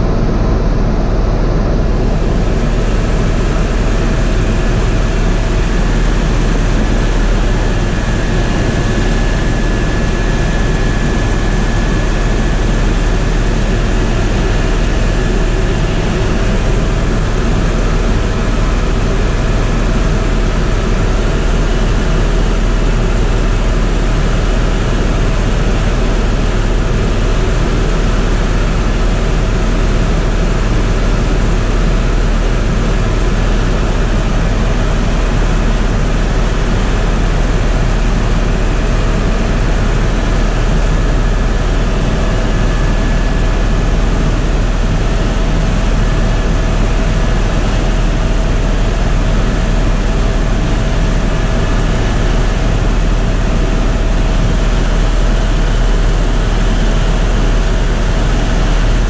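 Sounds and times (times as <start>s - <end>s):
faint steady whines: 0.0s - 59.0s
helicopter turbine and rotor noise: 0.0s - 59.0s.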